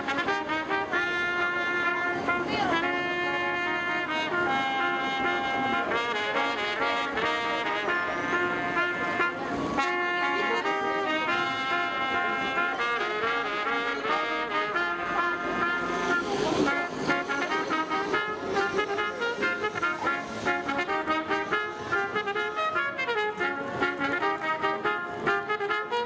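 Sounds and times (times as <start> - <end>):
trumpets playing a melody: 0.0 - 26.0.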